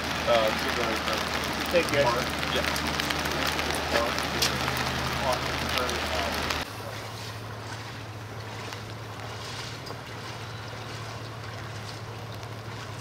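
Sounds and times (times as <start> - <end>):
wading through water: 0.0 - 13.0.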